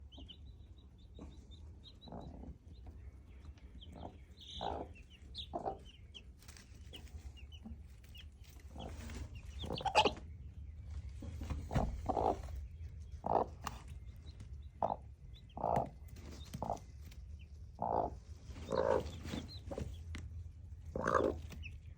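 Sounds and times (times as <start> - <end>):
chicken clucking: 0.0 - 21.9
chicks peeping: 0.0 - 21.9.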